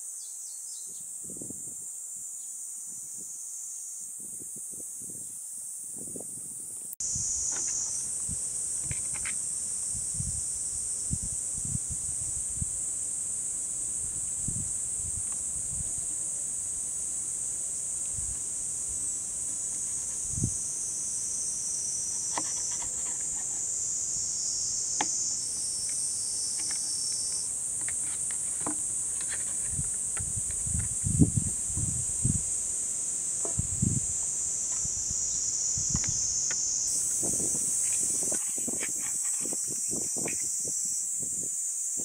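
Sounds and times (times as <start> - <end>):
insects chorus: 0.0 - 42.0.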